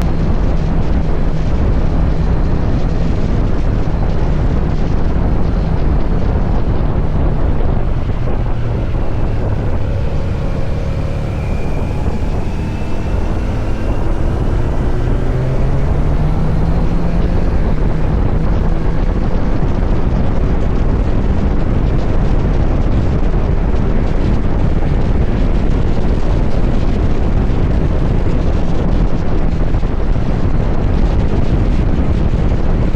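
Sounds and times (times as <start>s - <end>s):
motorcycle engine running: 0.0s - 32.9s
wind noise on microphone: 0.0s - 32.9s.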